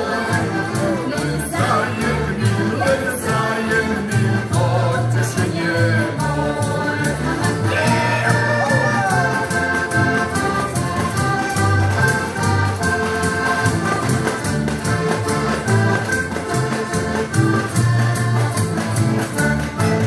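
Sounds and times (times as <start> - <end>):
button accordions playing folk music: 0.0 - 20.0.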